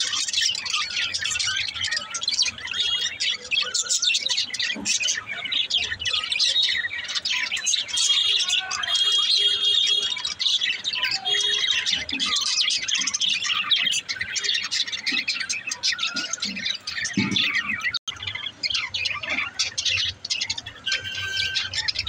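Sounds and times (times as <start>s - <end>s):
budgerigars chattering and warbling: 0.0s - 22.0s.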